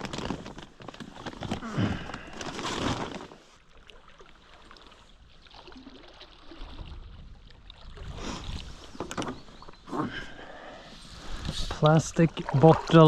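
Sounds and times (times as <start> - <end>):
paddle moving through water: 0.3 - 13.0
water lapping: 1.9 - 13.0.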